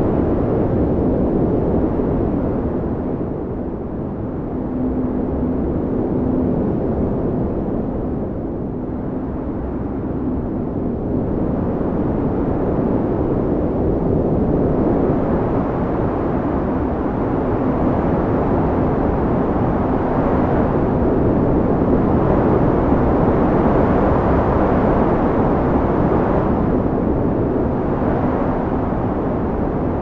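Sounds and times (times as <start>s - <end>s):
blizzard wind blowing: 0.0s - 30.0s.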